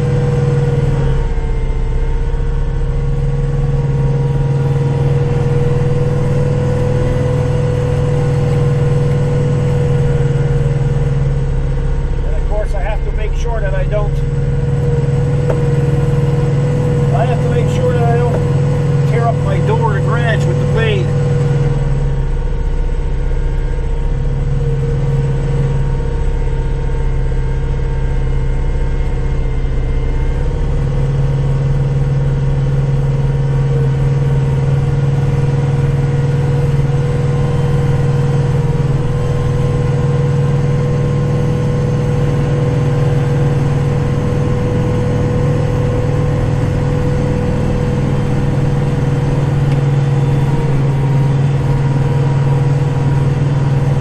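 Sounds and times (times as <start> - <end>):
snowblower whine: 0.0 - 54.0
tractor diesel engine droning: 0.0 - 54.0.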